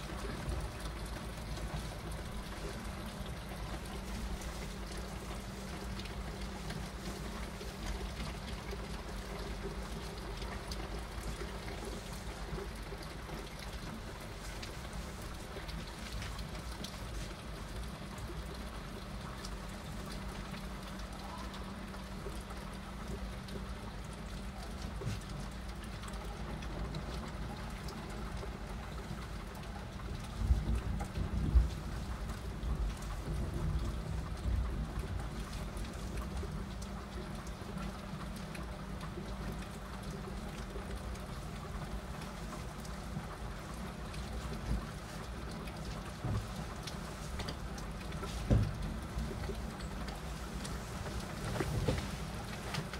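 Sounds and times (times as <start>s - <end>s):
heavy rain falling: 0.0s - 52.9s
raindrops ticking close by: 0.0s - 52.9s.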